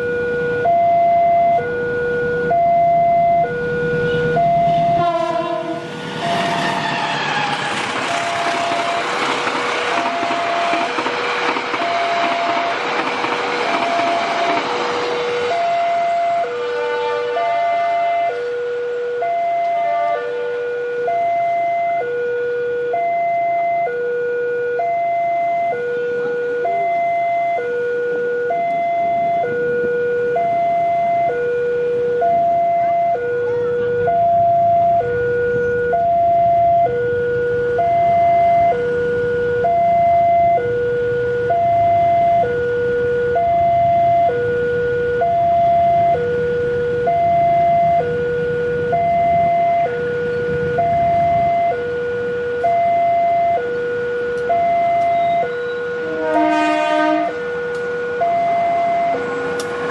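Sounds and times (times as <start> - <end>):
level-crossing warning alarm: 0.0 - 59.9.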